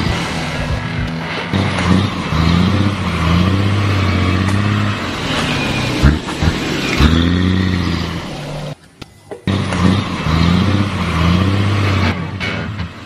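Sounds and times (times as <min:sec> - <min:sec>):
truck engine revving: 0:00.0 - 0:08.8, 0:09.4 - 0:13.0.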